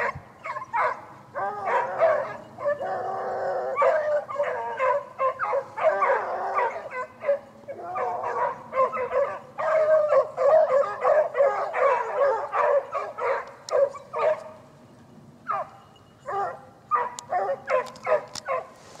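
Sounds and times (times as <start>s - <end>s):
pack of beagles baying: 0.0s - 14.6s, 15.4s - 18.8s.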